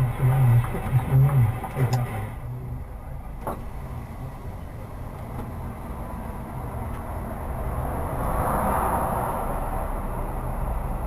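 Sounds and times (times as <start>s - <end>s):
lorry engine and road rumble: 0.0s - 11.0s.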